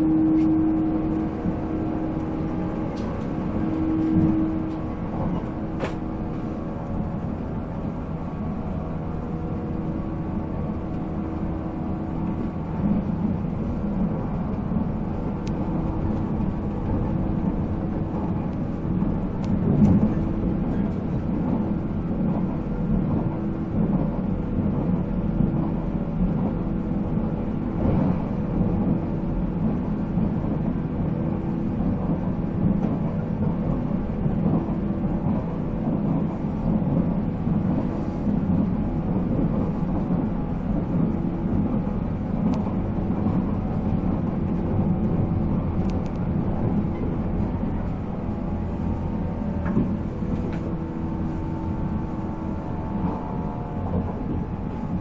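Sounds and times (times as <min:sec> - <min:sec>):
wheel and rail noise: 0:00.0 - 0:55.0.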